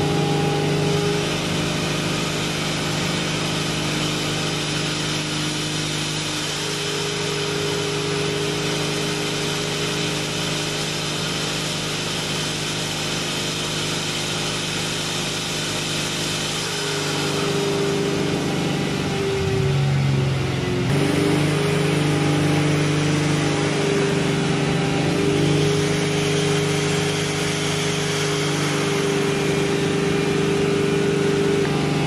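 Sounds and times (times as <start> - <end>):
car engine droning under load: 0.0 - 32.0.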